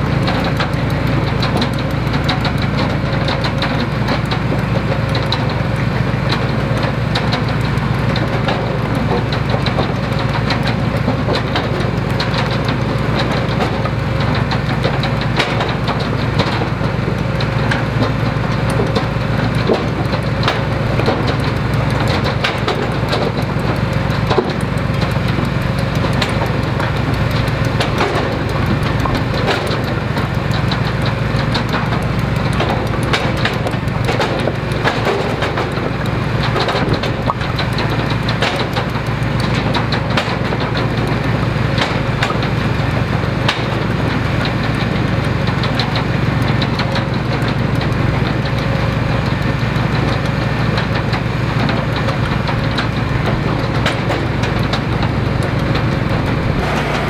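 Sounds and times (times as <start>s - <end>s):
log splitter engine running: 0.0s - 57.0s
split wood clattering: 0.2s - 57.0s.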